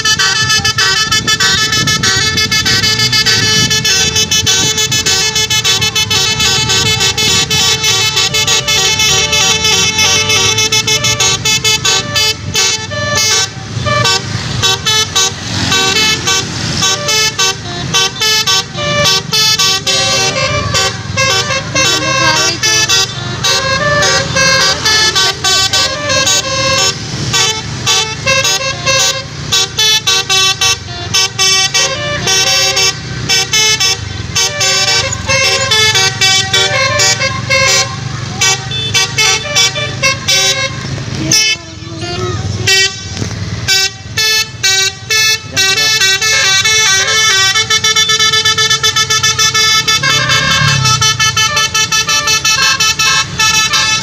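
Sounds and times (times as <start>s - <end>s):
bus horn playing melody: 0.0s - 54.0s
low engine rumble: 0.0s - 54.0s.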